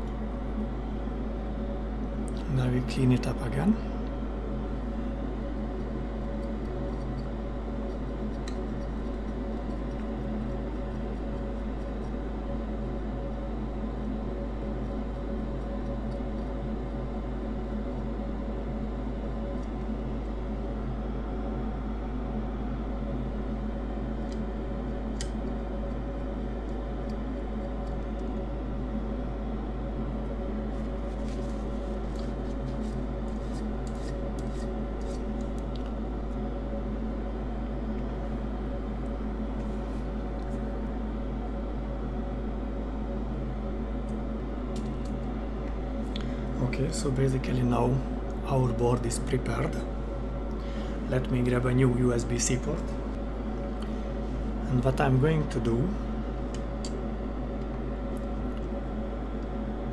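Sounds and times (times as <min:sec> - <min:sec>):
mechanical hum of fan: 0:00.0 - 0:59.9.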